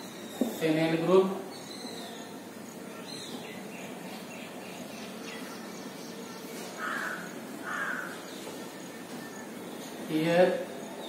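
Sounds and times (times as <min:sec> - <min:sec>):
room noise: 0:00.0 - 0:11.0.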